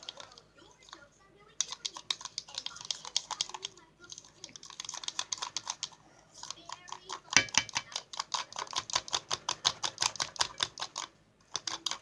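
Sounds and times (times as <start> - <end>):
slime clicking while stirred: 0.0 - 12.0.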